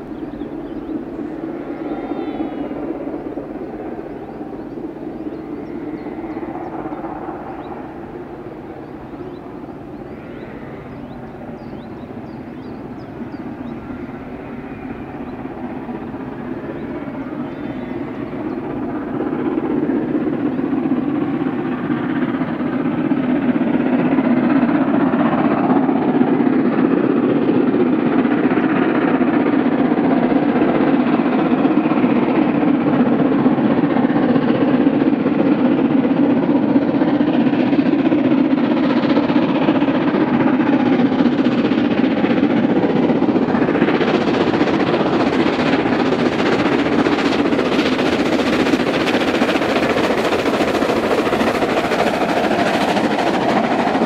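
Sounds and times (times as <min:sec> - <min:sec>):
steam locomotive exhaust: 0:00.0 - 0:54.0.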